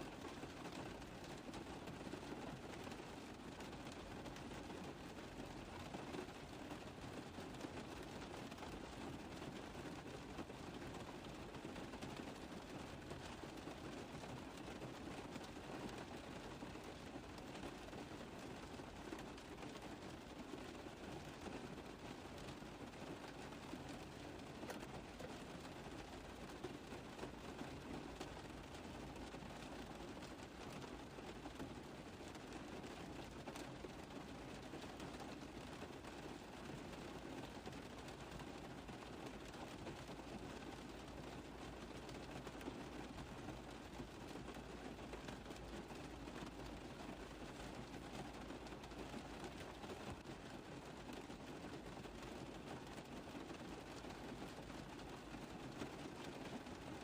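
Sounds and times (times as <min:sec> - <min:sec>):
rain tapping on a car roof: 0:00.0 - 0:57.0.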